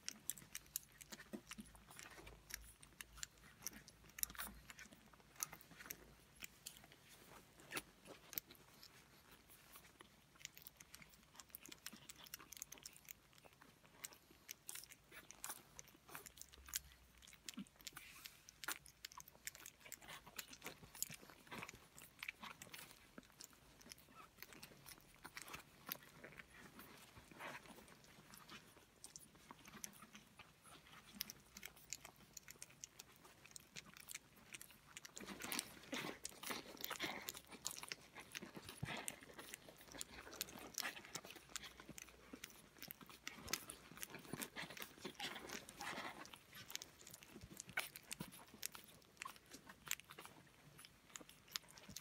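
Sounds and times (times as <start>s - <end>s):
puppies licking and smacking: 0.0s - 52.0s.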